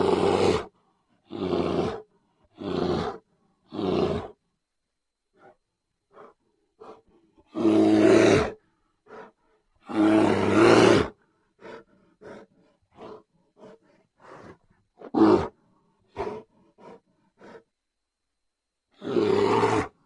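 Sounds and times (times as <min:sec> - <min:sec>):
bear roaring: 0:00.0 - 0:04.4, 0:06.1 - 0:17.6, 0:18.9 - 0:20.0.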